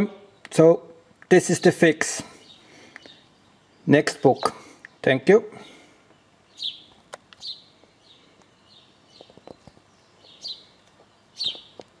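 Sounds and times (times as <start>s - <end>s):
small bird chirping: 2.3s - 12.0s.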